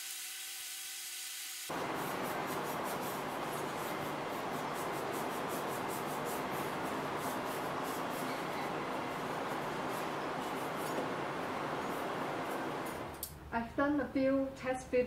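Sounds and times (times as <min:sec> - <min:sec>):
steady background hiss: 0:01.7 - 0:15.0.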